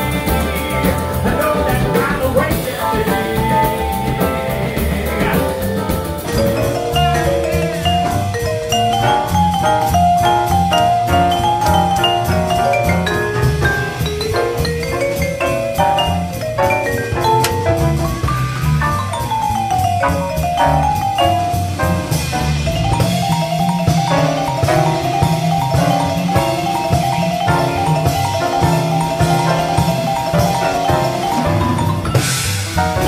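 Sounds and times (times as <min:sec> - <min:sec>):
drum kit: 0:00.0 - 0:33.0
piano accompaniment: 0:00.0 - 0:33.0
vibraphone played with mallets: 0:00.0 - 0:33.0.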